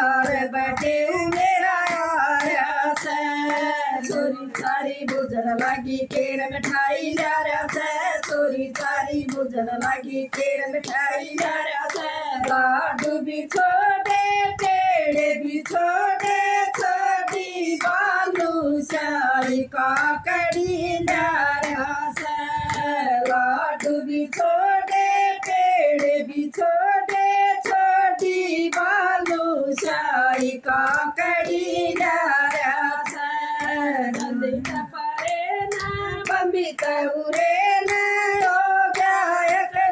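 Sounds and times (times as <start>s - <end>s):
hands clapping to a beat: 0.0s - 39.9s
women singing: 0.0s - 39.9s.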